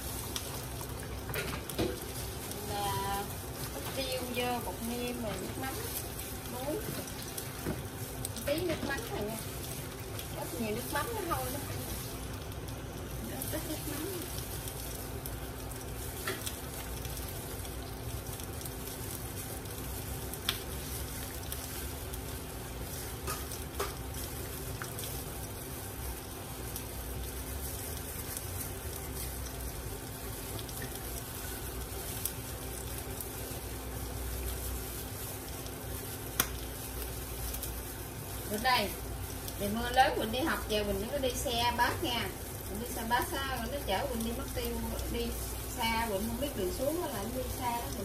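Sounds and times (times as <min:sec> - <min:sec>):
food sizzling in hot oil: 0:00.0 - 0:48.0.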